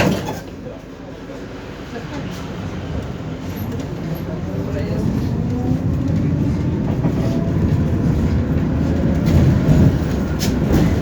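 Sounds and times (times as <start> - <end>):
tram wheels rumbling: 0.0 - 11.0.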